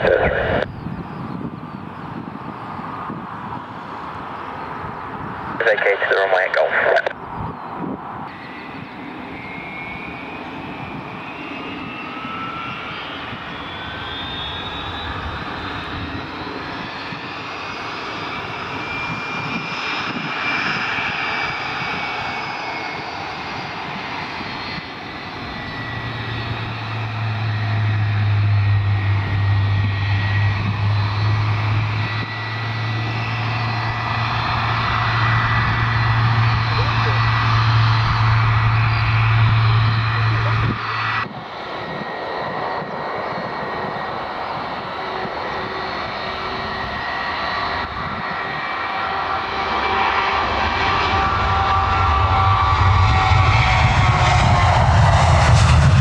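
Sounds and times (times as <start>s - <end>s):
jet engine starting whine: 0.0s - 56.0s.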